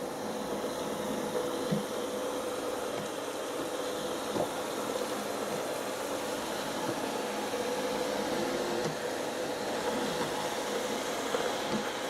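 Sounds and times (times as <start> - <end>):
robot vacuum cleaner whirring: 0.0 - 12.0.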